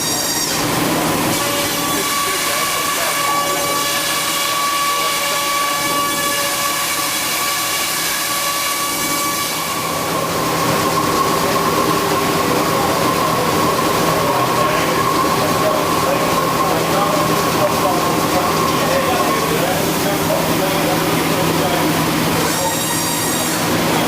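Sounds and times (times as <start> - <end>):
hissing machine noise: 0.0 - 24.0
router high whine: 0.0 - 24.0.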